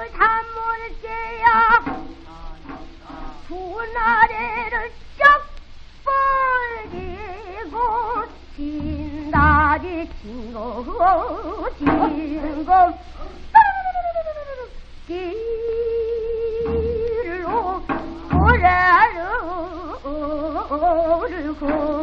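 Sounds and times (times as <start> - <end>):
woman singing with vibrato: 0.0 - 22.0
low drum strokes: 1.0 - 13.7, 16.3 - 22.0.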